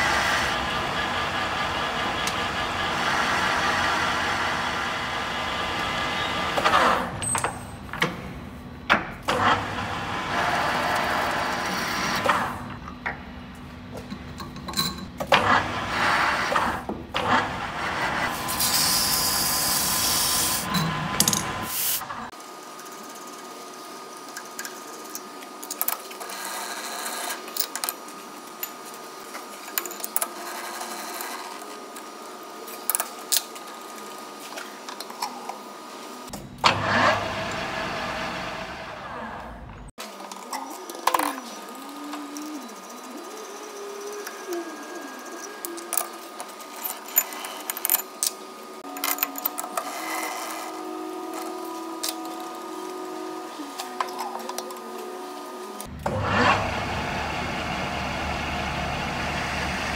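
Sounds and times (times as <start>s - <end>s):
lathe whining: 0.0s - 22.3s, 26.0s - 59.9s.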